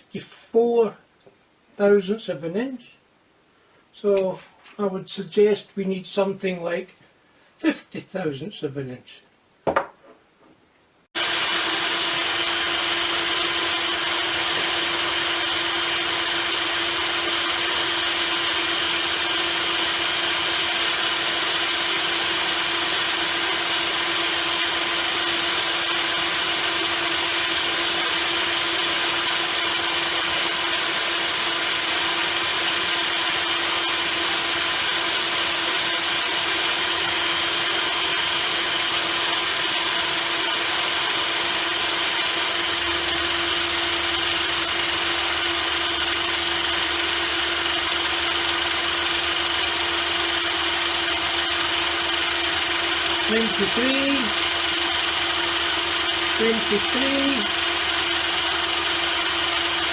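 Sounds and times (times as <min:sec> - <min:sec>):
power tool motor humming: 0:11.2 - 0:59.9.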